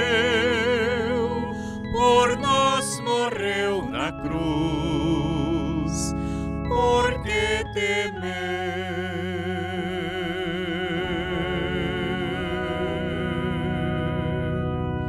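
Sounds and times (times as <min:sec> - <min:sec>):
electronic keyboard chords: 0:00.0 - 0:15.0
person singing a hymn: 0:00.0 - 0:15.0.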